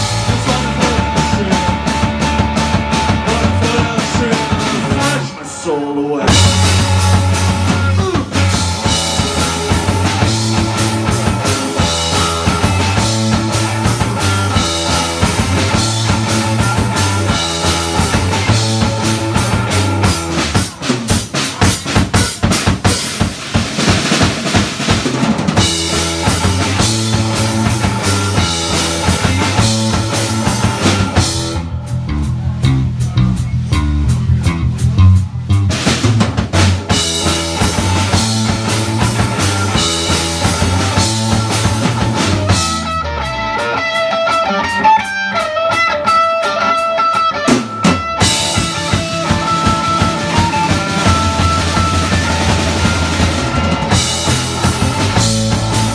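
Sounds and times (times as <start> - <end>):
live rock band playing: 0.0 - 55.9
drum kit hits: 6.3 - 46.2, 47.4 - 55.9.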